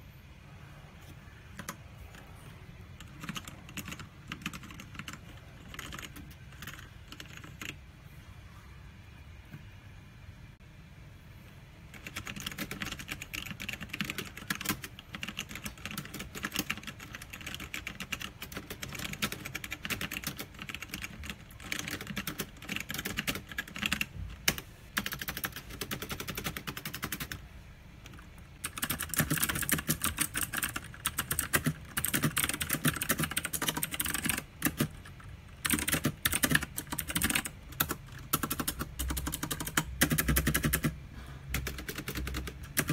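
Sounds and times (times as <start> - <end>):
mechanical keyboard typing: 1.5 - 2.3, 3.0 - 7.8, 11.9 - 27.4, 28.0 - 42.9.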